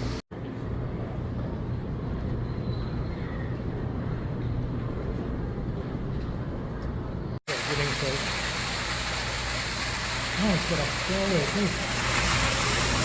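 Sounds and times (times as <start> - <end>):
air handling hum and rumble: 0.0 - 13.0.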